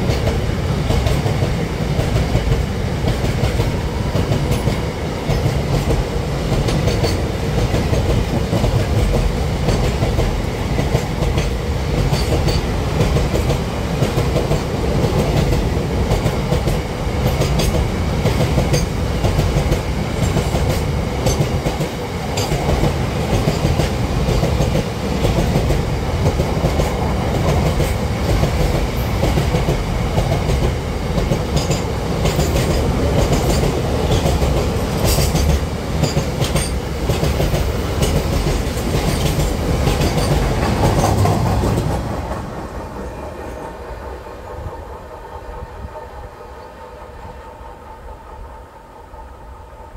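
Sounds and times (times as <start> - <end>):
wheels clacking over rail joints: 0.0 - 42.8
train wheels rumbling on rails: 0.0 - 49.9.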